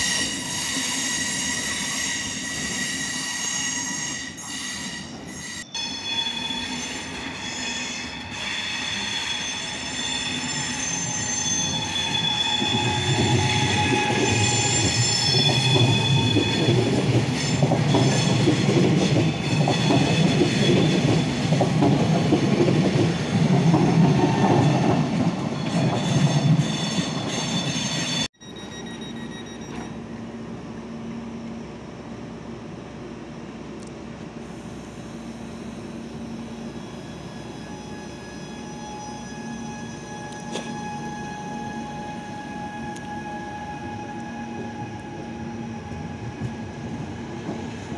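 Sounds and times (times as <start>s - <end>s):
train wheel squeals: 0.0s - 22.1s, 22.7s - 30.2s, 35.2s - 47.9s
train rumble and wheel clatter: 0.0s - 28.4s, 29.4s - 47.9s
stationary train hum: 0.0s - 47.9s.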